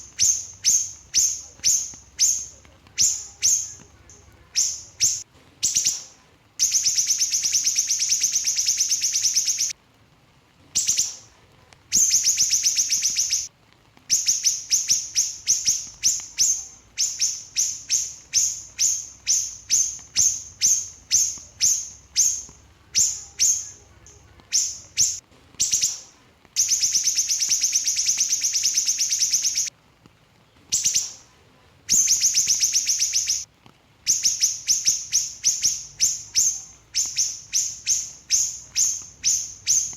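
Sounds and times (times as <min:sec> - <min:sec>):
songbird trills and chirps: 0:00.0 - 0:09.8, 0:10.7 - 0:11.3, 0:11.9 - 0:13.5, 0:14.1 - 0:29.7, 0:30.7 - 0:33.5, 0:34.1 - 0:39.9.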